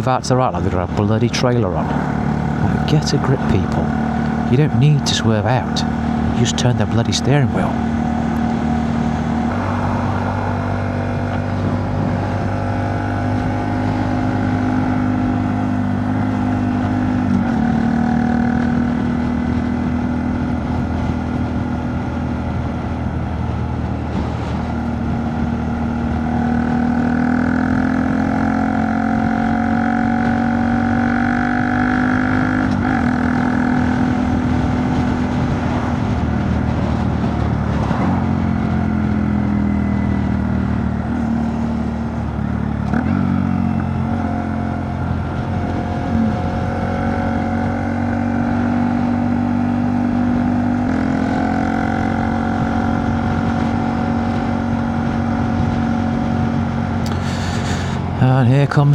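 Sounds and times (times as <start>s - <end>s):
motorcycle engine while riding: 0.0s - 58.4s.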